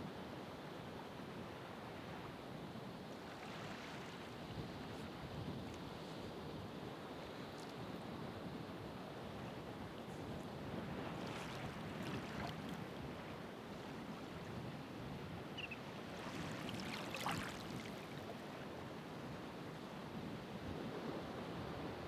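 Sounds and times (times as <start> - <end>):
ocean waves washing on shore: 1.4 - 22.0.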